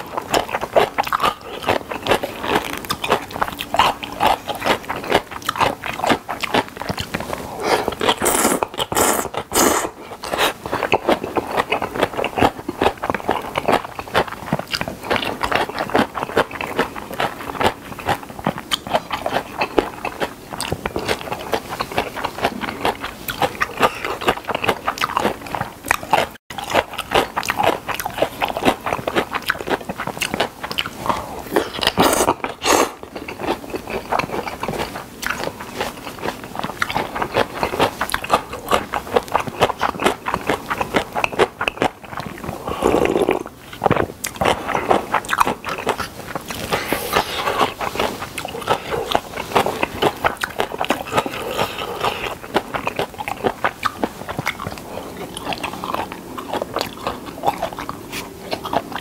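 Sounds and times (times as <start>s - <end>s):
wet chewing mouth clicks: 0.0s - 59.0s.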